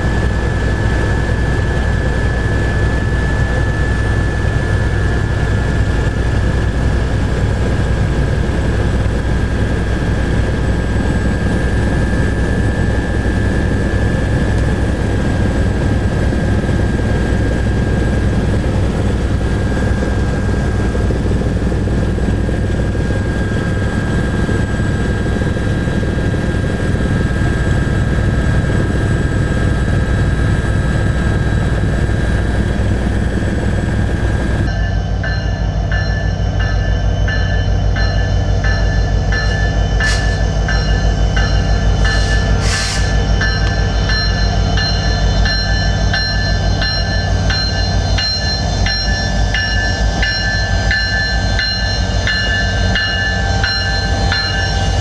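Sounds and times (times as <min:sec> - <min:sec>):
constant high whine: 0:00.0 - 0:55.0.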